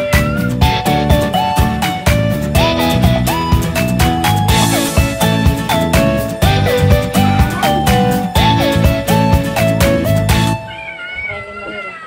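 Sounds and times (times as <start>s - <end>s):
music with beat and bass: 0.0s - 10.6s.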